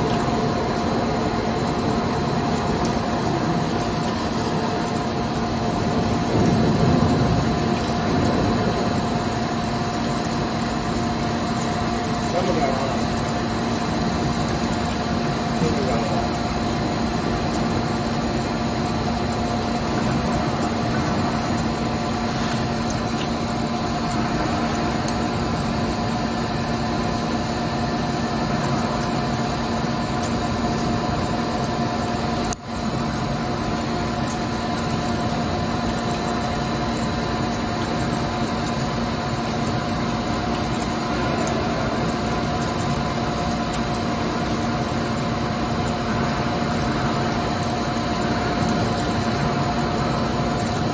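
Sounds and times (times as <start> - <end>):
lathe mechanical hum: 0.0 - 50.9.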